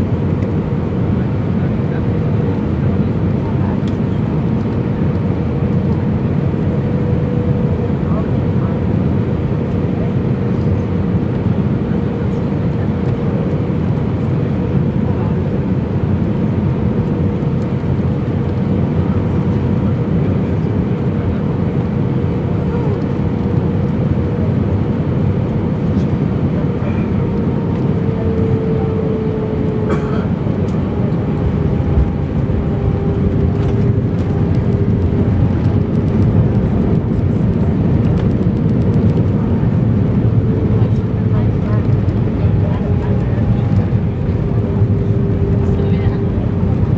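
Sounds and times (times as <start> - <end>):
airplane cabin engine rush: 0.0 - 46.9.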